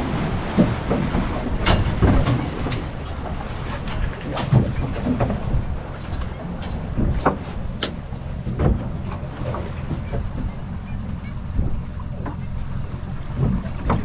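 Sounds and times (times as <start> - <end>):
boat engine low rumble: 0.0 - 14.0.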